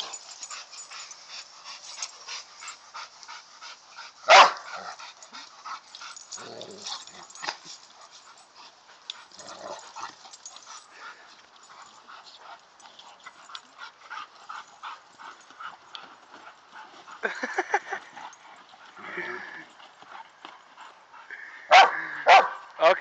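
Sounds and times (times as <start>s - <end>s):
dogs scuffling clicks: 0.0s - 19.0s
dogs yipping and whimpering: 0.0s - 20.8s.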